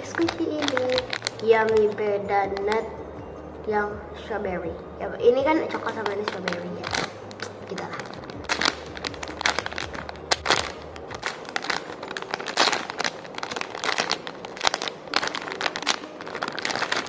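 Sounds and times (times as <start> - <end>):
plastic bag crinkling: 0.0 - 2.9, 5.6 - 17.0.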